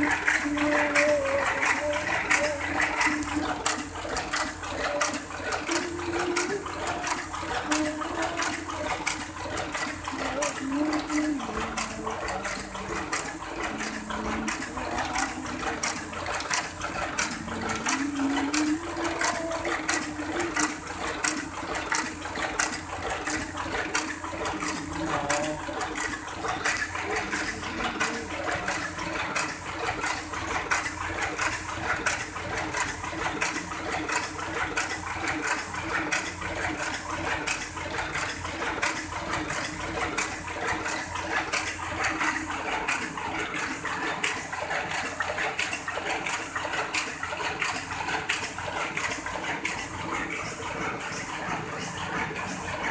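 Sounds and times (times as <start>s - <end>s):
printing press clattering: 0.0s - 52.9s
steady mechanical hum: 0.0s - 52.9s.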